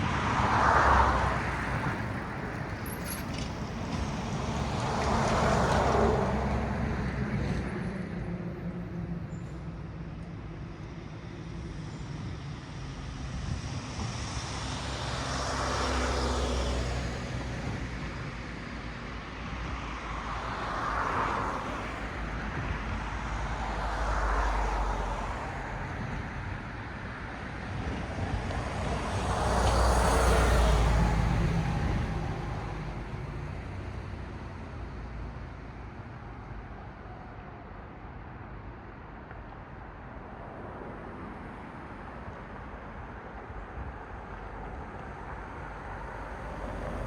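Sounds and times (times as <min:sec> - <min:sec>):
cars passing: 0:00.0 - 0:47.0
low traffic rumble: 0:00.0 - 0:47.0.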